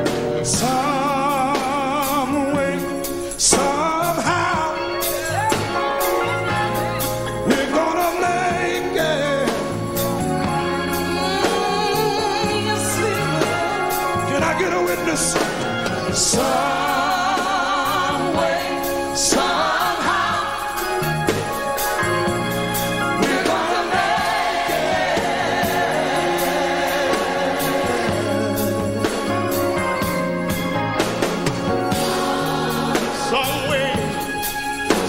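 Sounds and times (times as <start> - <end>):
choir singing with a band: 0.0 - 35.0
drums and cymbals: 0.0 - 35.0.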